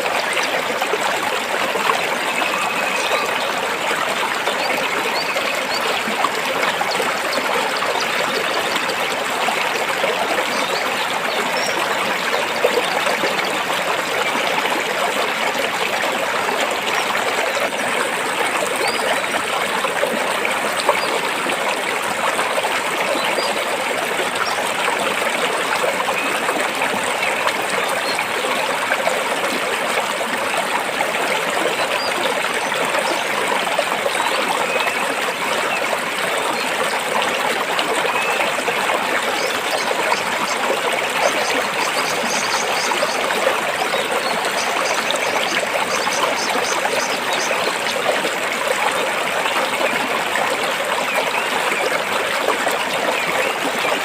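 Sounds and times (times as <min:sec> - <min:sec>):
water splashing over rocks: 0:00.0 - 0:54.0.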